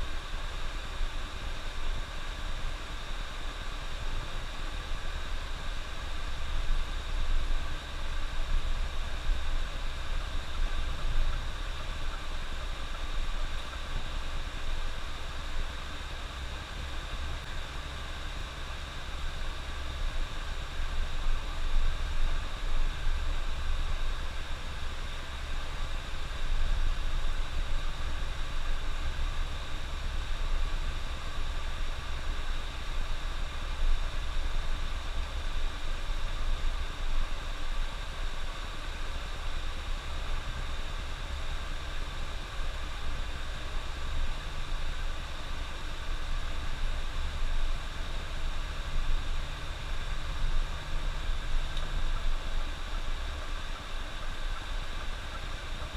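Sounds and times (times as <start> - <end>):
bus engine drone: 0.0 - 55.9
road and tyre hiss: 0.0 - 55.9.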